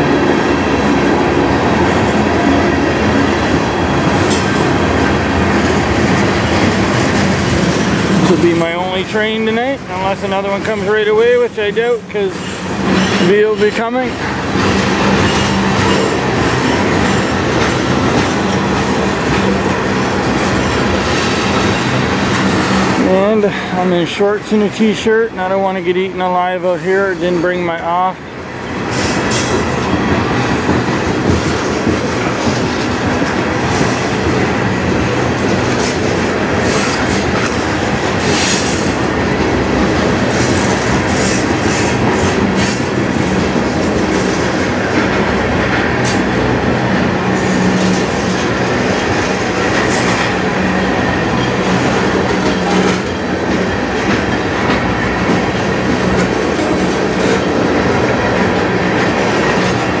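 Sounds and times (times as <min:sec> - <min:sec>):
steel wheels rumbling on rail: 0:00.0 - 1:00.0.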